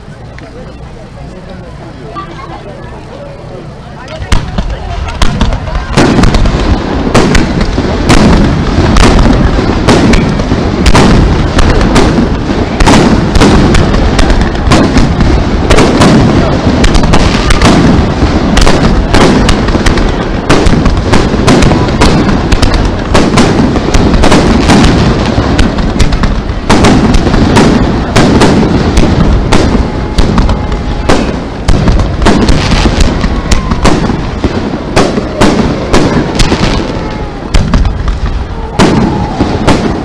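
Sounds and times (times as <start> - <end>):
firework shells bursting: 4.0 - 40.0.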